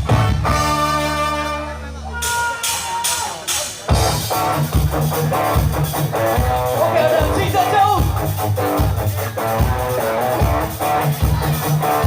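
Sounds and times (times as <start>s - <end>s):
ska band playing: 0.0s - 12.0s.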